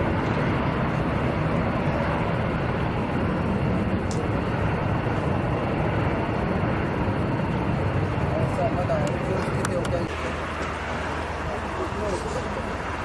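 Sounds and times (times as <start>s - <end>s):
aircraft engine rushing: 0.0s - 13.0s.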